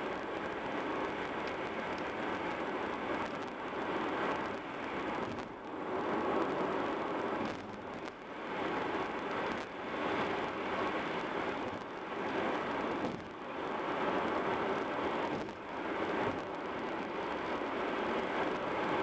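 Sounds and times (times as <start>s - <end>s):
car tyre and wind noise: 0.0s - 19.0s.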